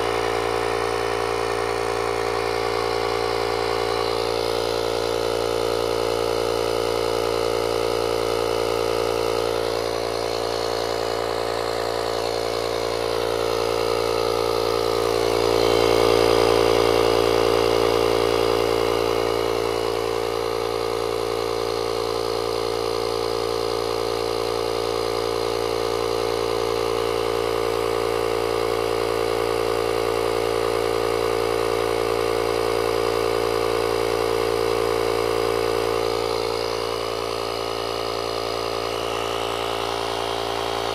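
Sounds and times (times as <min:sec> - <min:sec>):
air compressor running: 0:00.0 - 0:40.9.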